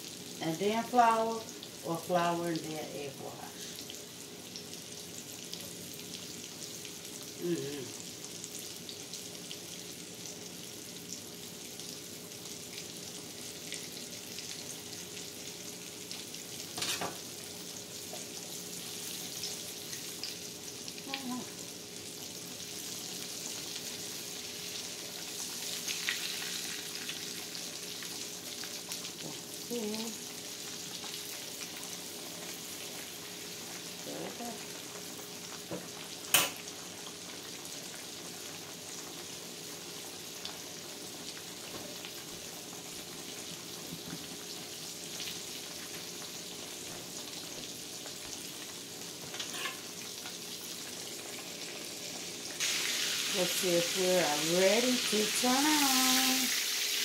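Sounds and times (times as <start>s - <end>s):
pork chops sizzling in oil: 0.0s - 57.0s.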